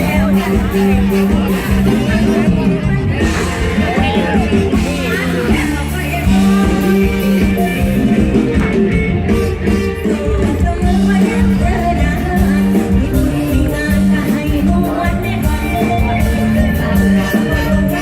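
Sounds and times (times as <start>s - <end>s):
live band playing: 0.0s - 18.0s
person singing: 0.0s - 18.0s.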